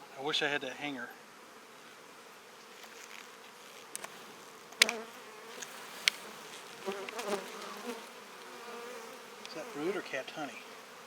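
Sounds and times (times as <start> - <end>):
bees buzzing: 1.1 - 11.0.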